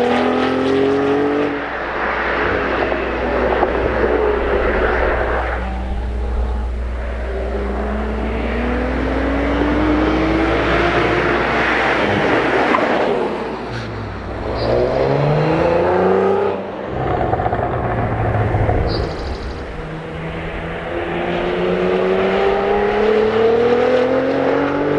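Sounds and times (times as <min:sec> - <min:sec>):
car engine accelerating hard: 0:00.0 - 0:24.9.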